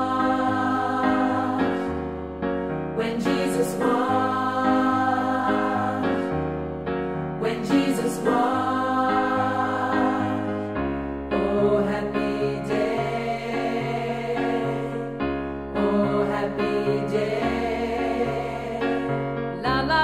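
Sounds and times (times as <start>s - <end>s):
choir singing gospel song: 0.0s - 20.0s.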